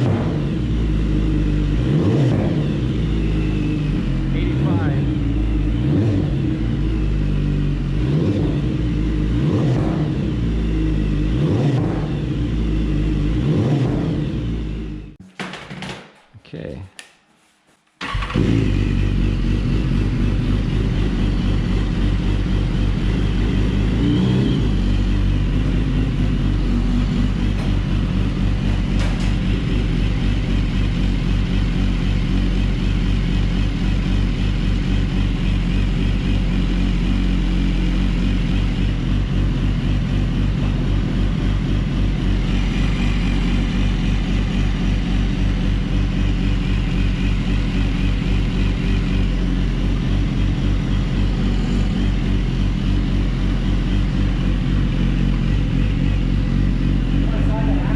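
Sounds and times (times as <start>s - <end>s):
motorcycle engine idling: 0.0s - 15.2s, 18.0s - 57.9s.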